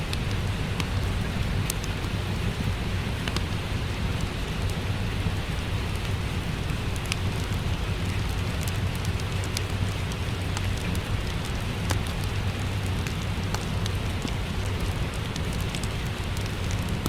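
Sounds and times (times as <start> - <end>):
low steady rumble: 0.0 - 17.0
steady rain: 0.0 - 17.0
wood fire crackling: 0.0 - 17.0.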